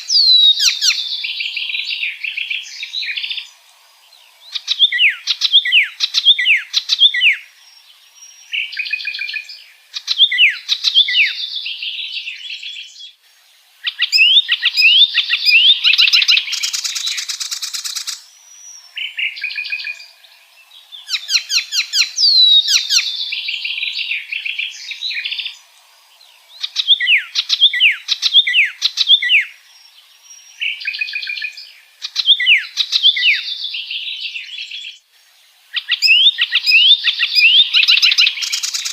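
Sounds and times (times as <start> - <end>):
warbler singing: 0.0 - 13.2, 13.8 - 35.1, 35.7 - 38.9.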